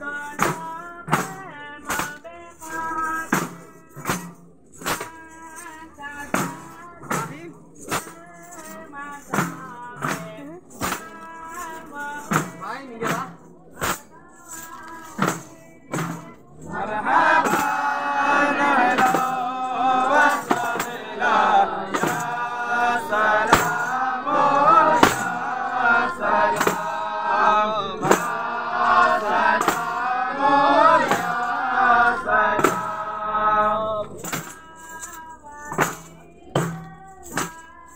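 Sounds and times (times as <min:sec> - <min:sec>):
men singing in chorus: 0:00.0 - 0:04.2, 0:04.8 - 0:37.9
jingle tambourines beating: 0:00.0 - 0:37.9.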